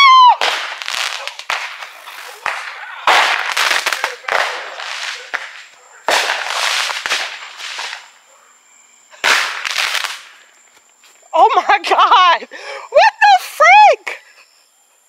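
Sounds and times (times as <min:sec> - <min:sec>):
fireworks crackling with sharp pops: 0:00.0 - 0:12.3.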